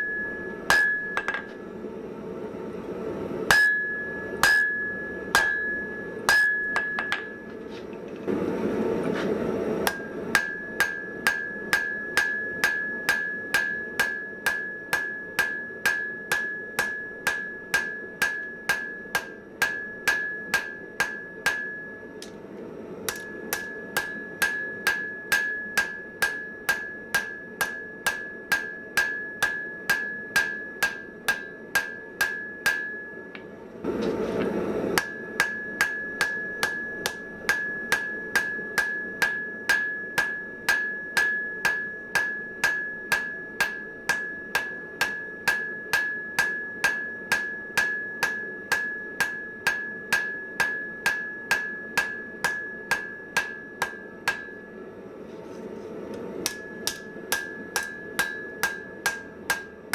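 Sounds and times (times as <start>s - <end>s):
anvil ringing: 0.0s - 1.5s, 3.5s - 7.4s, 9.8s - 22.3s, 23.1s - 33.5s, 35.0s - 54.8s, 56.4s - 59.8s
hammer striking steel on anvil: 0.0s - 1.6s, 3.5s - 7.5s, 9.8s - 22.4s, 23.0s - 33.6s, 34.9s - 54.8s, 56.4s - 59.9s.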